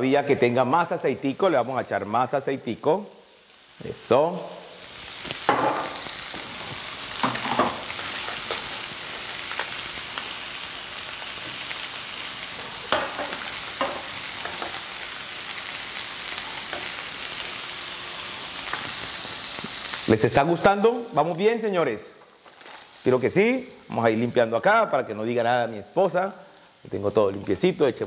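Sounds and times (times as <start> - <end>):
food sizzling in hot oil: 0.4 - 28.0.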